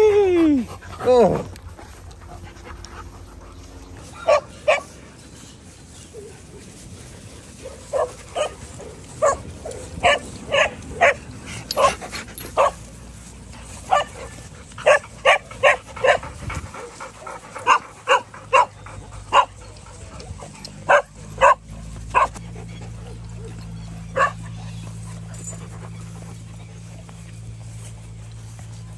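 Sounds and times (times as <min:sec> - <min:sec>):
dogs barking: 0:02.1 - 0:05.0, 0:06.1 - 0:13.0, 0:13.6 - 0:27.6.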